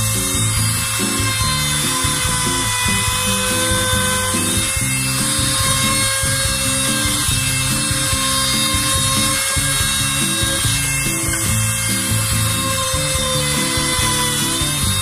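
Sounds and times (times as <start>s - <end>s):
background music with bass line: 0.0s - 15.0s
trim router high whine: 0.0s - 15.0s.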